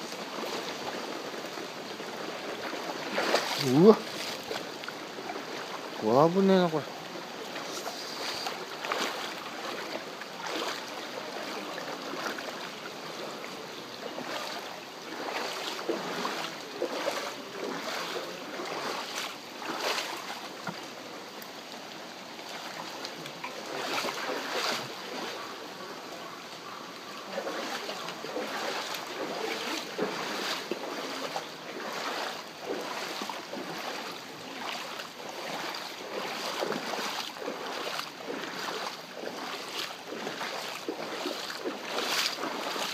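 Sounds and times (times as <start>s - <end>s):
floodwater running and sloshing: 0.0s - 42.9s
water splashes: 0.0s - 42.9s.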